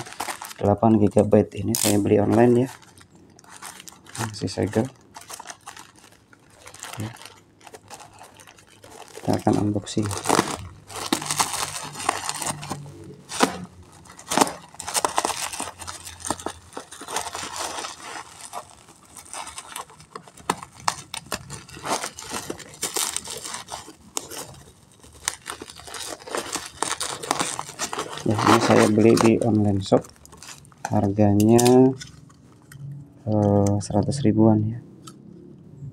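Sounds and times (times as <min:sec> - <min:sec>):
packaging crinkling and tearing: 0:00.0 - 0:33.8.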